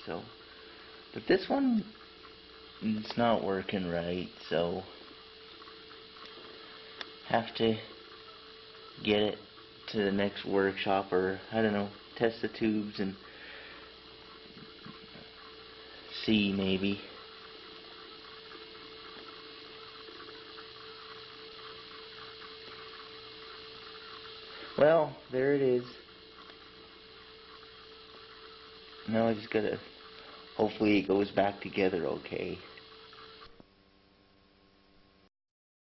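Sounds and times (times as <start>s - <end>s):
even hiss: 0.0s - 33.6s
constant tone: 0.0s - 35.3s
faint background hum: 0.0s - 35.3s.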